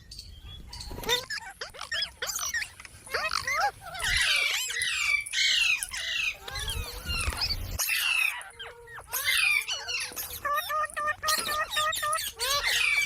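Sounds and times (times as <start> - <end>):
parrot squawking and chattering: 0.8 - 13.0.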